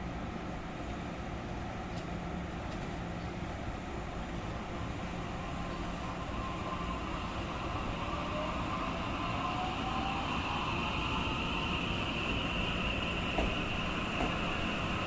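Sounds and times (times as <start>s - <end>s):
train cars rumbling on rails: 0.1s - 15.0s.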